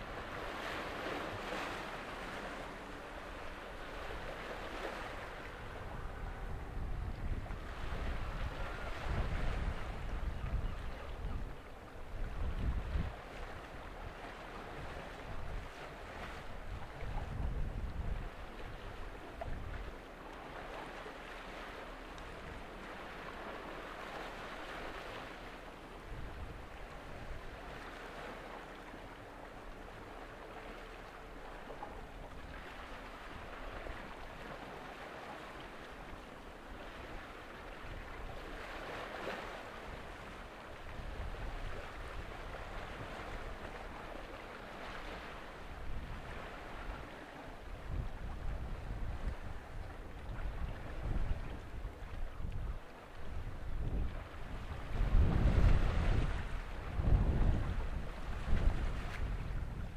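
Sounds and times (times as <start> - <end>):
wind rumbling on microphone: 0.0 - 28.6, 35.9 - 59.9
water lapping: 0.0 - 59.9.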